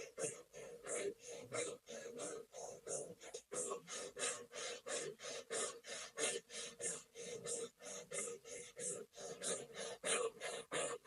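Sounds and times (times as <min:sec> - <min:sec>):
person rapid rhythmic breathing: 0:00.0 - 0:11.0.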